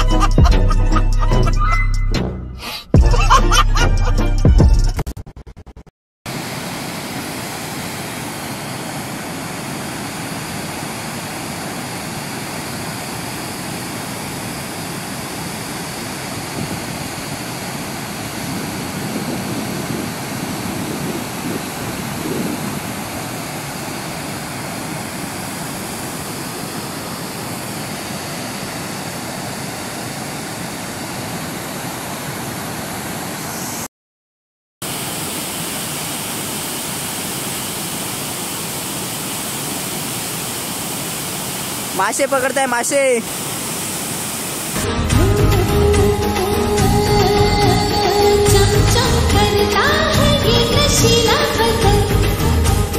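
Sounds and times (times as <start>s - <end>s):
waterfall roaring: 6.3s - 33.9s, 34.8s - 50.3s.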